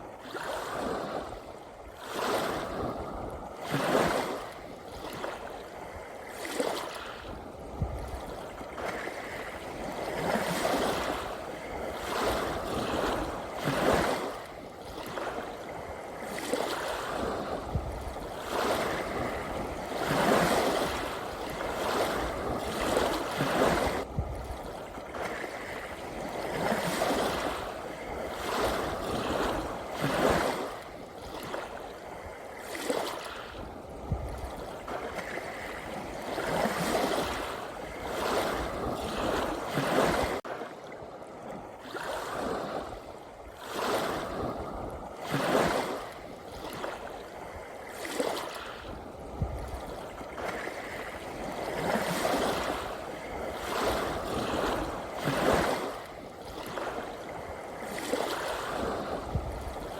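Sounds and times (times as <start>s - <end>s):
small sea waves lapping: 0.0s - 59.9s.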